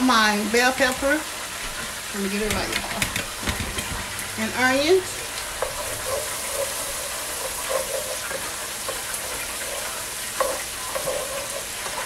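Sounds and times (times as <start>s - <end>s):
vegetables sizzling in a pot: 0.0s - 12.0s
wooden spatula scraping a pot: 1.8s - 12.0s.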